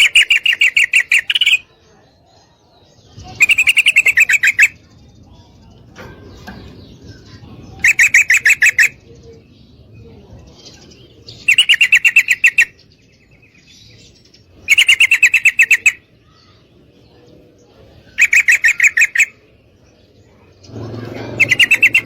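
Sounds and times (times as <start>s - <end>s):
bulbul rapid sharp calls: 0.0s - 1.8s, 3.1s - 5.8s, 6.4s - 9.5s, 10.6s - 16.7s, 17.9s - 22.0s.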